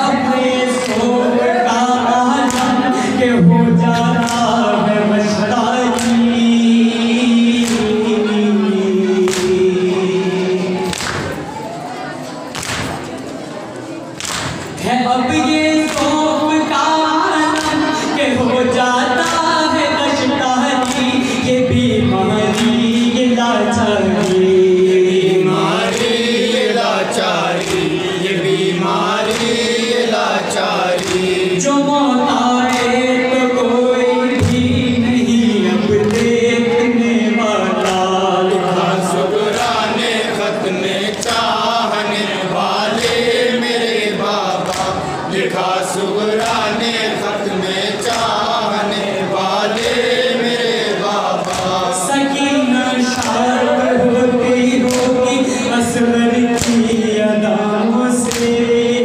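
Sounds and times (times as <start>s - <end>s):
group of men singing along: 0.0s - 11.5s, 14.8s - 59.0s
lead reciter singing into microphone: 0.0s - 11.6s, 14.6s - 59.0s.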